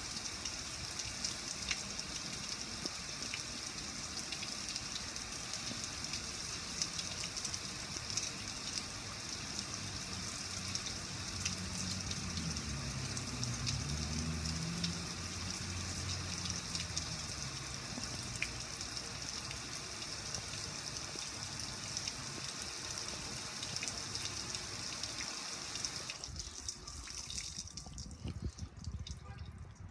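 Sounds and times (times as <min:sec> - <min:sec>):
water dripping: 0:00.0 - 0:29.9
water splashing onto concrete: 0:00.0 - 0:29.9.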